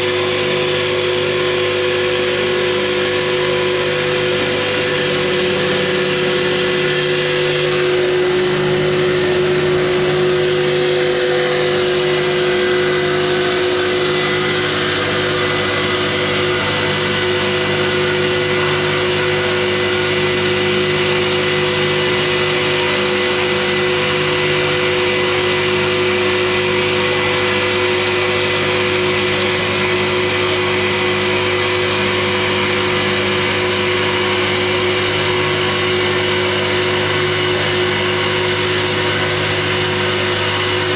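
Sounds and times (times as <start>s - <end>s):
polishing machine motor hum: 0.0s - 40.9s.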